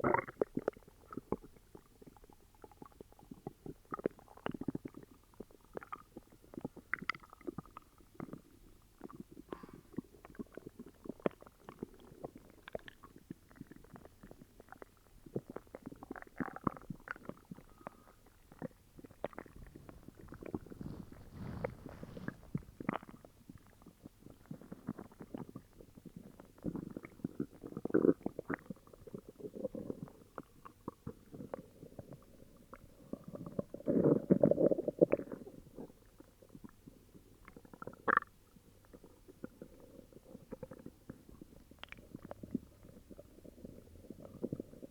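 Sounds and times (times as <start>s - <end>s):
stomach growling and gurgling: 0.0s - 44.9s.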